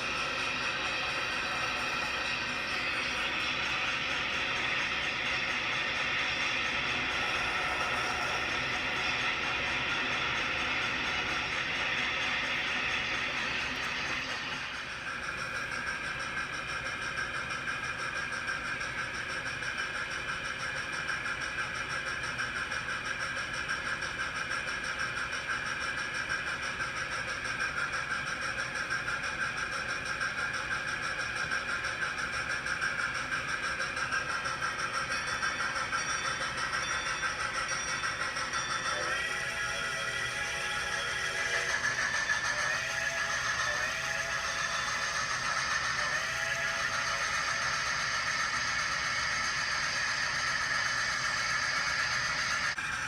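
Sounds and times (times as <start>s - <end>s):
steam train running by: 0.0s - 53.0s.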